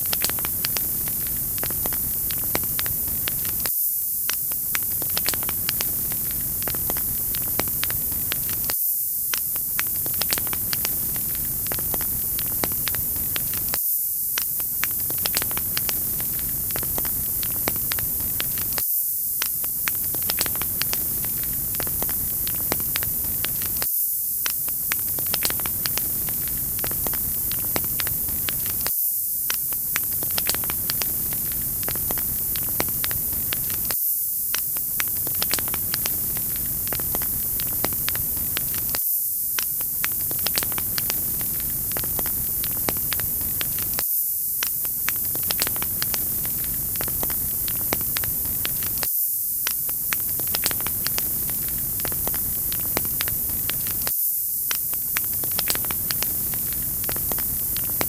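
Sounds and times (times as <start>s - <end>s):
wood fire crackling and popping: 0.0s - 18.8s, 19.4s - 58.0s.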